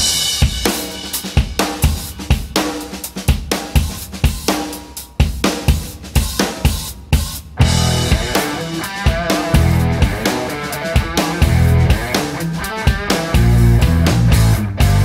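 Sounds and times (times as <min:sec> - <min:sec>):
drum-kit beat: 0:00.0 - 0:15.0.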